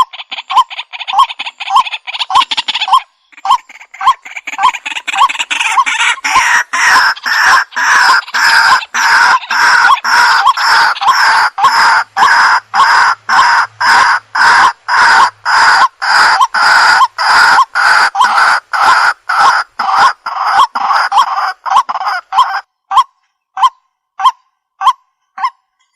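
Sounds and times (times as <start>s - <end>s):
waterhen harsh clucking calls: 0.0s - 25.6s.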